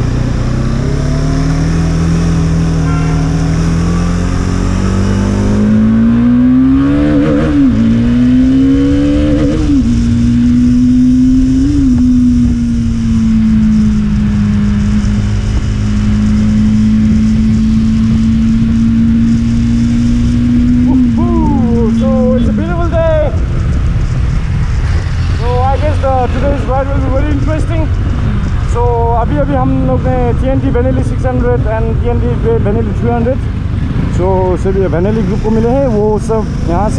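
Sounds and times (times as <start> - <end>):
motorcycle engine shifting gears: 0.0 - 31.3.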